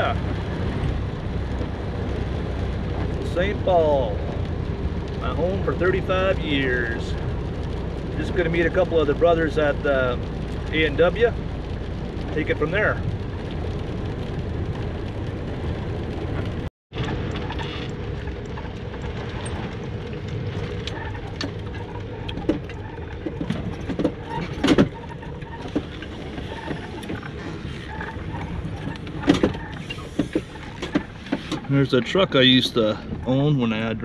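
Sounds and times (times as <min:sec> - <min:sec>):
engine and tyre noise: 0:00.0 - 0:34.0.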